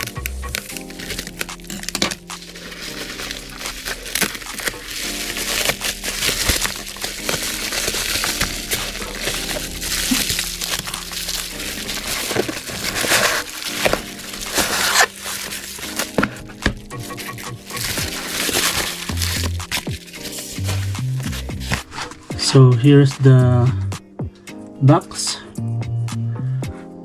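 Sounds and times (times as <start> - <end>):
bubble wrap crinkling: 0.0 - 22.3
background music with held notes: 0.0 - 27.0.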